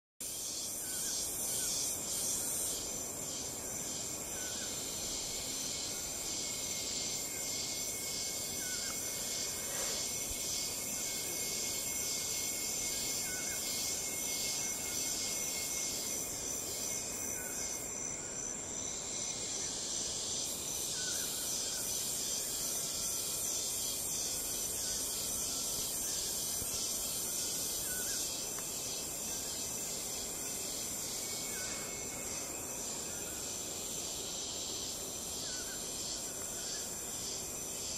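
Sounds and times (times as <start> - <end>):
pulsing insect chorus: 0.2 - 37.9.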